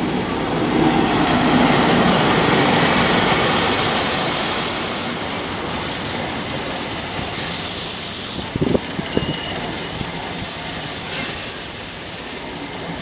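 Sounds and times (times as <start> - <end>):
diesel train passing: 0.0 - 13.0
train coaches rolling: 0.0 - 13.0.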